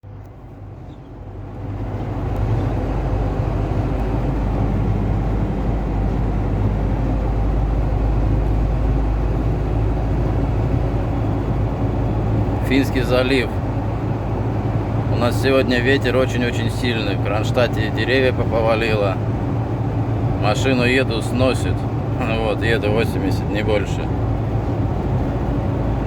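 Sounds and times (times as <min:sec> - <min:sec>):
road and wind noise in car: 0:00.0 - 0:26.0.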